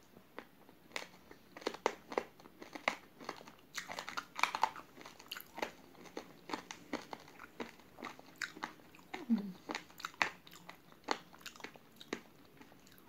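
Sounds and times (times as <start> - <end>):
chewing crunchy raw rice: 0.4 - 13.0.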